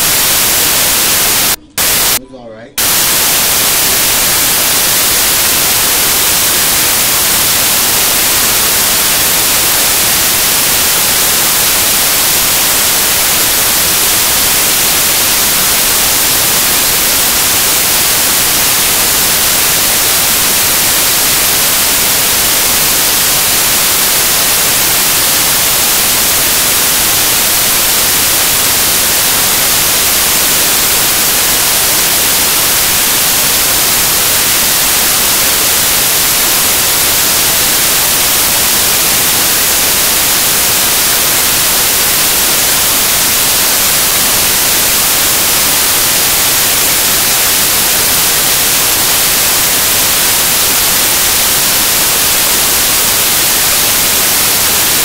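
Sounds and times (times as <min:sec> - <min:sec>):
static hiss: 0:00.0 - 0:02.2, 0:02.8 - 0:55.0.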